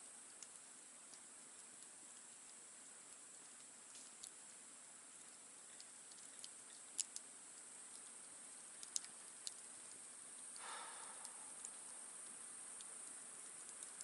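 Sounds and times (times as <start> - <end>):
campfire crackling and popping: 0.0 - 14.0
faint hiss: 0.0 - 14.0.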